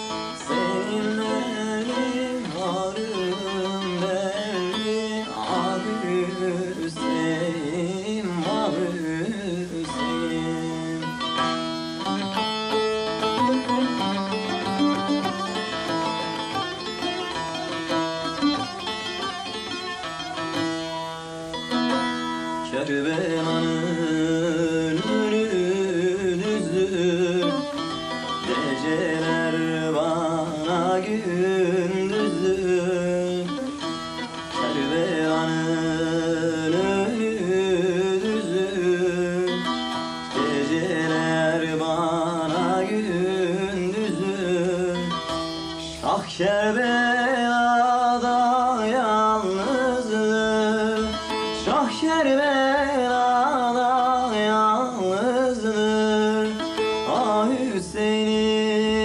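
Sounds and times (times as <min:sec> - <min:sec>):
long-necked lute playing: 0:00.0 - 0:59.0
person singing ornamented melody: 0:00.0 - 0:59.0.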